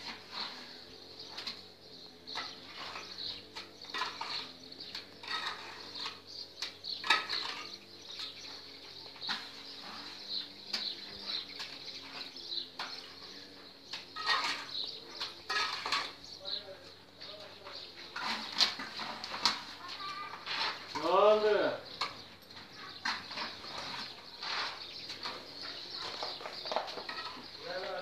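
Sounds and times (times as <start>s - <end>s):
birds chirping: 0.0s - 28.0s
trowel scraping mortar: 0.0s - 28.0s.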